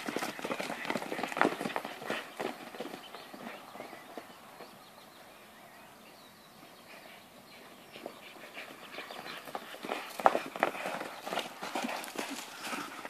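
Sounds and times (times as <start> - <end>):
horses galloping on grass: 0.0 - 5.2, 6.6 - 13.0.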